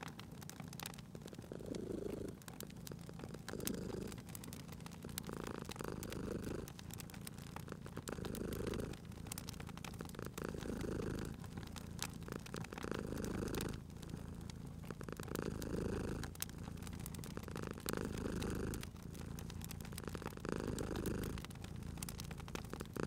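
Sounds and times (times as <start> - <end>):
cat purring: 0.0 - 23.0
wood fire crackling: 0.0 - 23.0.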